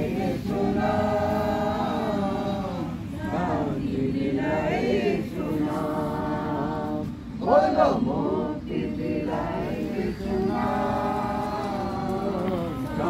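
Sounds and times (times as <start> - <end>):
close voice singing: 0.0 - 13.0
group singing unaccompanied: 0.0 - 13.0.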